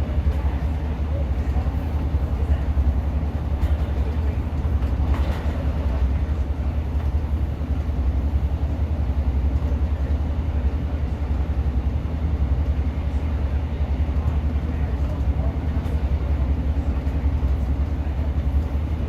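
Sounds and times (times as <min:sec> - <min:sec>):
train diesel engine rumble: 0:00.0 - 0:19.0
train running gear on track: 0:00.0 - 0:19.0.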